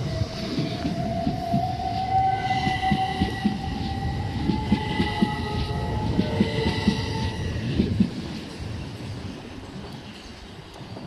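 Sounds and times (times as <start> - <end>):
electric train traction whine: 0.0 - 11.0.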